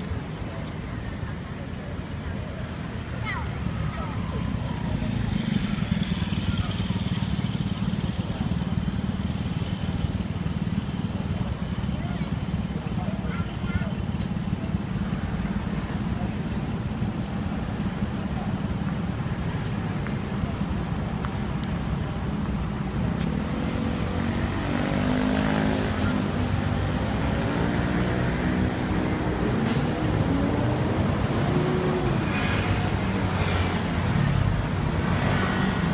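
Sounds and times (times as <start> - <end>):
low rumble of street traffic: 0.0 - 35.9.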